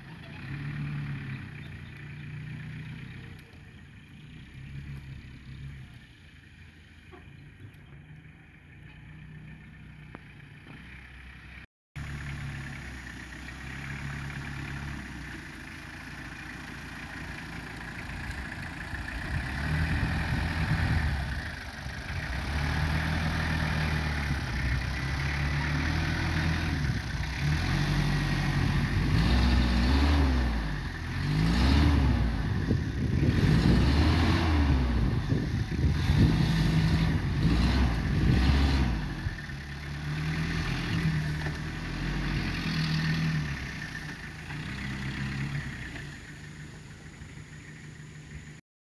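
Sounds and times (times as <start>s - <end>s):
diesel truck engine revving: 0.0s - 6.8s, 7.6s - 48.6s.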